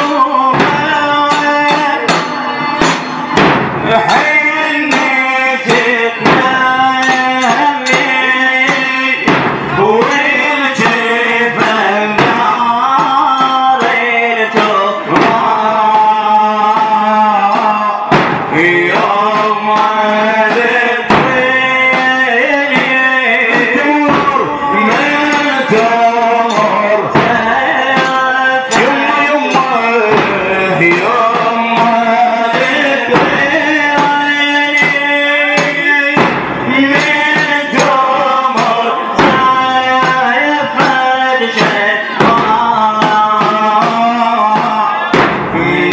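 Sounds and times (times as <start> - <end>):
steady percussion beat: 0.0 - 45.9
man chanting an elegy: 4.0 - 45.9.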